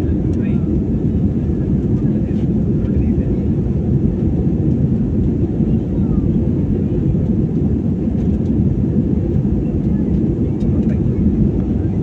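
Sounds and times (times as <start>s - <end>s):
airplane engines rumbling: 0.0s - 12.0s.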